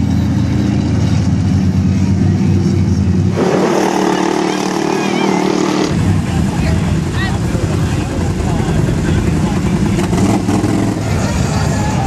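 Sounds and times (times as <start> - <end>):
higher-pitched engine: 0.0 - 12.0
vehicle engines droning: 0.0 - 12.0.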